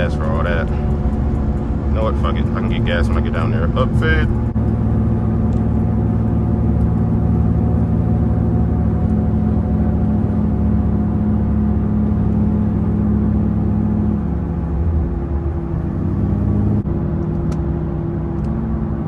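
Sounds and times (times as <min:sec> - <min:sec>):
loud car exhaust droning: 0:00.0 - 0:18.7.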